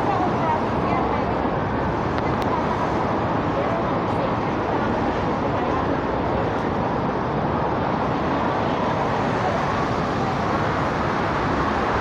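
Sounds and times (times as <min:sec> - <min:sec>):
city road traffic hum: 0:00.0 - 0:12.0.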